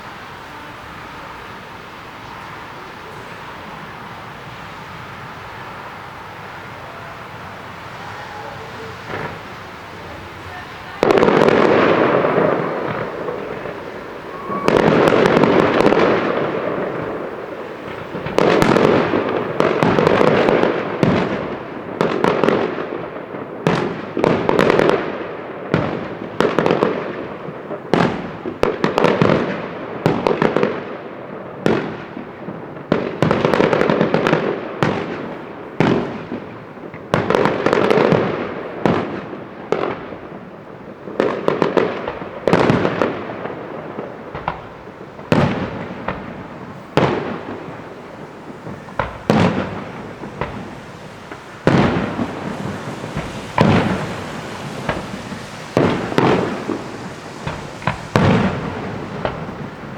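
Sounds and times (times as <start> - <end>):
fireworks bangs: 0.0 - 59.9
fireworks crackling and fizzing: 0.0 - 59.9.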